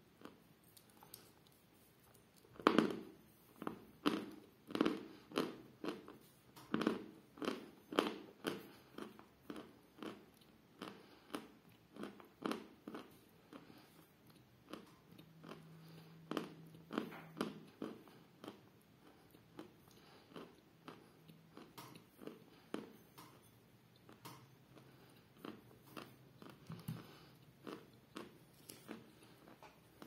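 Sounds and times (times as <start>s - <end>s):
chalk crunching while chewed: 0.2s - 30.0s.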